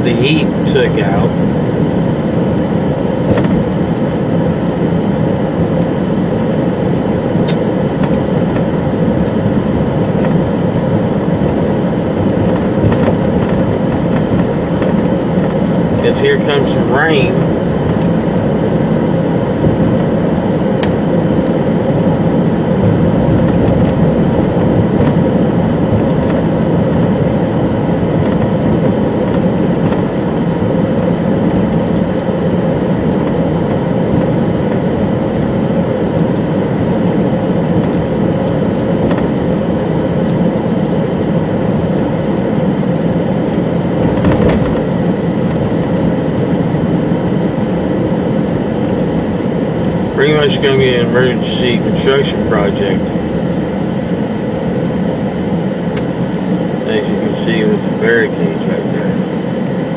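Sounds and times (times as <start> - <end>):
moving vehicle rumbling: 0.0 - 59.9.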